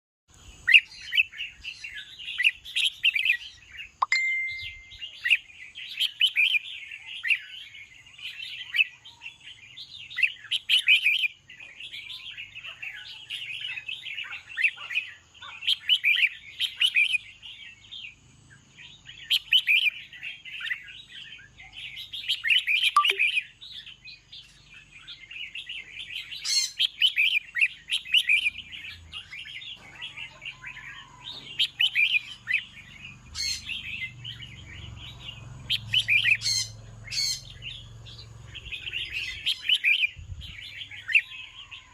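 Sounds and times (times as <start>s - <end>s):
bird singing warbled phrases: 0.3s - 41.9s.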